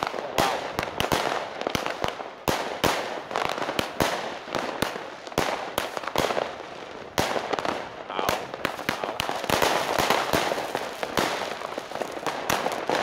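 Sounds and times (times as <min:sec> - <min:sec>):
fireworks banging: 0:00.0 - 0:13.0
fireworks crackling: 0:00.0 - 0:13.0.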